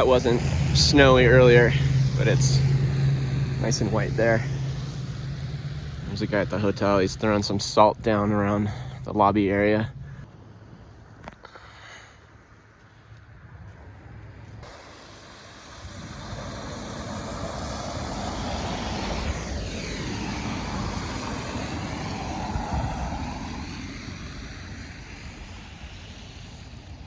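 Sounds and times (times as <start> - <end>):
vehicle passing by: 0.0 - 10.6, 13.4 - 27.0.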